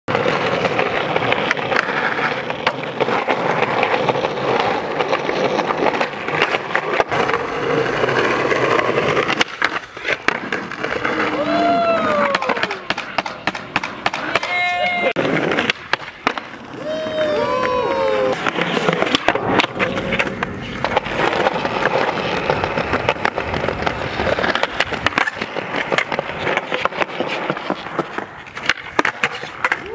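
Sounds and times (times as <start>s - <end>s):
skateboard clacking on ground: 0.1s - 29.9s
skateboard wheels rolling on pavement: 0.1s - 29.9s.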